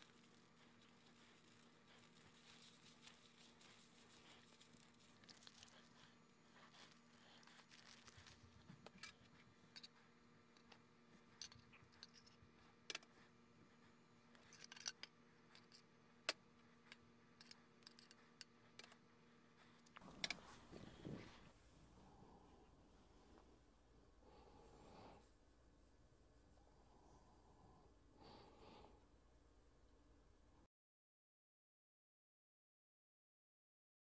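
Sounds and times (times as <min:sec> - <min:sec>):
faint steady hum: 0:00.0 - 0:30.7.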